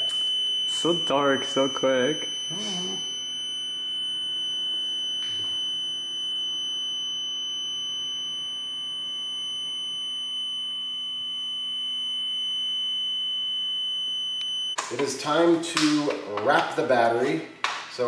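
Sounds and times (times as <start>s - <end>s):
high-pitched alarm tone: 0.0s - 15.5s.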